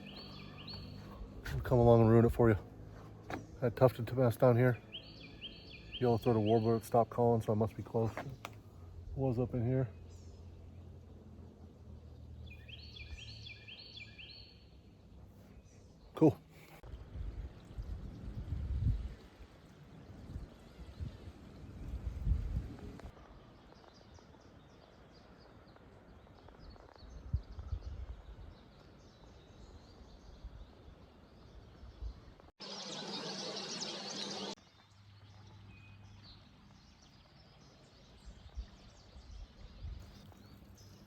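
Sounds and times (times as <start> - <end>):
woodland birdsong: 0.0 - 41.0.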